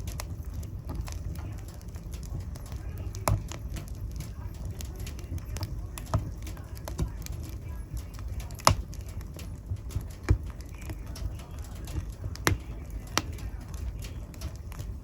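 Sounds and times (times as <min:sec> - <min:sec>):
fire snaps and pops: 0:00.0 - 0:15.0
low rumble of flames: 0:00.0 - 0:15.0.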